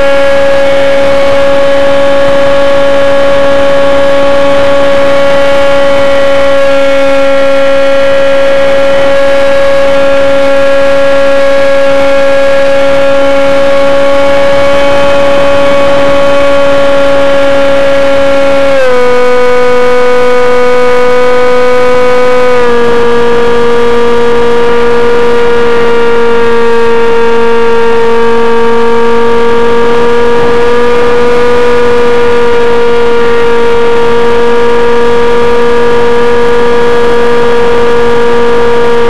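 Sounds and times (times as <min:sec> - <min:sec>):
model plane motor whining: 0:00.0 - 0:39.0.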